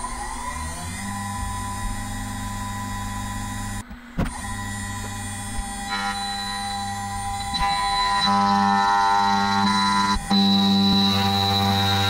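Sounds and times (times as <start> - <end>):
cnc router motor whine: 0.0 - 12.0.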